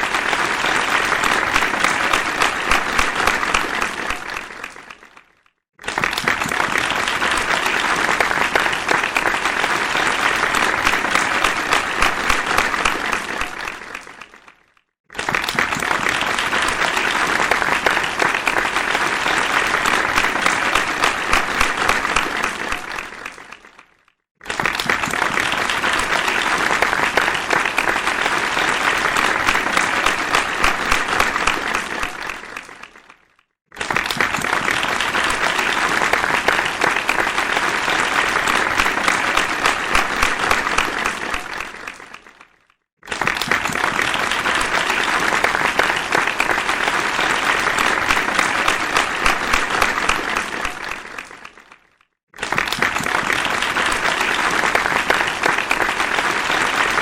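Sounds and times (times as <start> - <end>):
crowd applauding: 0.0 - 57.0.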